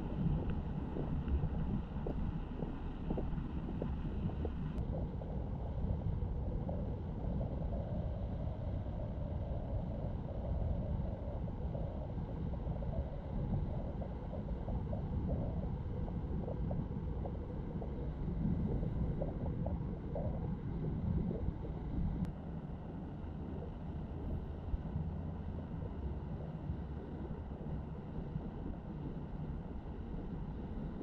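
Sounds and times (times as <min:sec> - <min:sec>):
faint high hum: 0:00.0 - 0:31.0.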